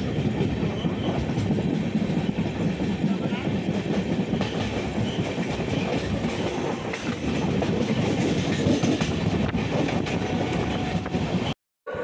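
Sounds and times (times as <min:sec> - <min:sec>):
clickety-clack over rail joints: 0:00.0 - 0:11.6
train wheels rumbling: 0:00.0 - 0:12.0.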